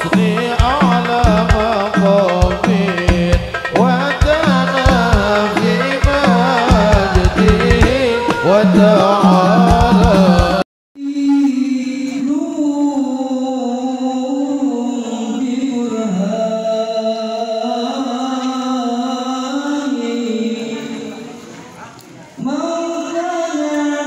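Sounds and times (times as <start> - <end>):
man singing unaccompanied: 0.0 - 21.4, 22.4 - 24.0.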